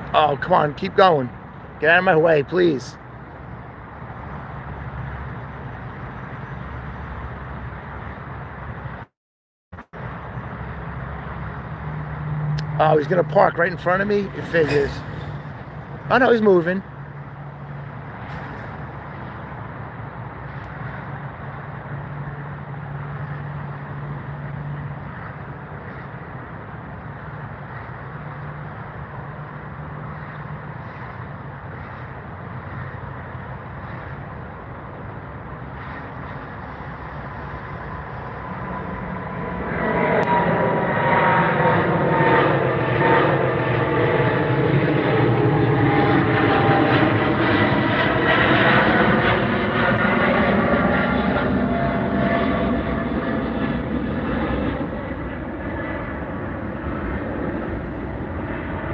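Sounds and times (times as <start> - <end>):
jet airliner taking off: 10.4 - 58.9.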